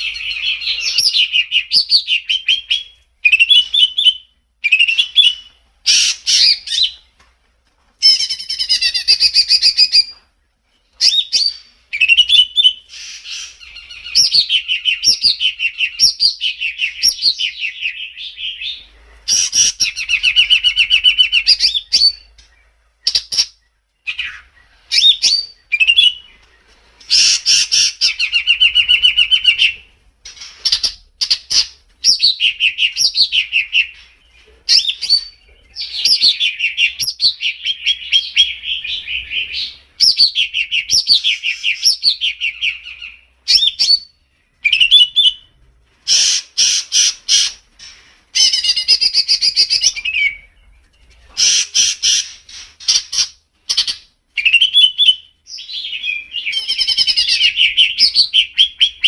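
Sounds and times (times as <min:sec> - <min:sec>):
songbird chirps and trills: 0:00.0 - 0:59.0.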